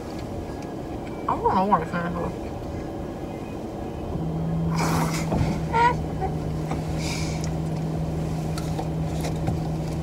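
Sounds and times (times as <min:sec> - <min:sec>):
car engine hum: 0:00.0 - 0:10.0.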